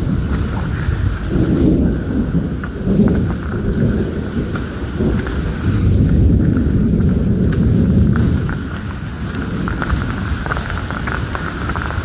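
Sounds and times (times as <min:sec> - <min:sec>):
heavy rain: 0:00.0 - 0:12.0
low thunder rumble: 0:00.0 - 0:12.0
sharp taps of raindrops: 0:00.0 - 0:12.0.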